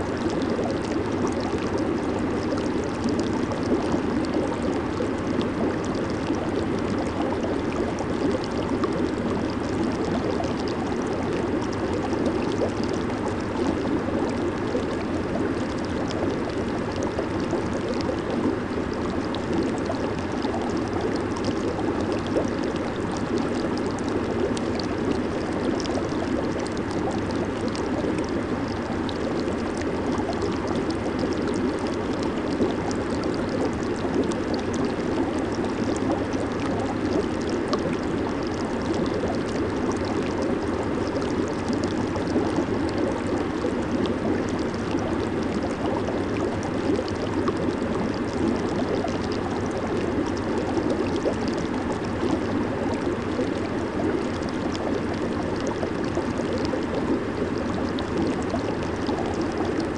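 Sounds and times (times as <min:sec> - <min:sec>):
hot tub water bubbling: 0:00.0 - 0:59.9.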